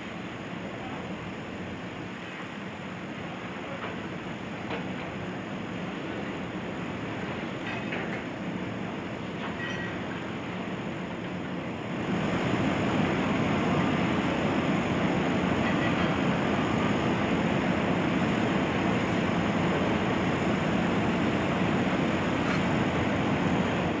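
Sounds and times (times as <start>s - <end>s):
excavator engine and hydraulics: 0.0s - 24.0s.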